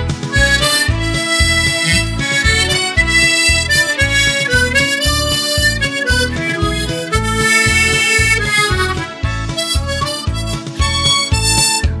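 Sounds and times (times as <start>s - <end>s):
low bass beat: 0.0s - 12.0s
harmonica melody: 0.2s - 12.0s.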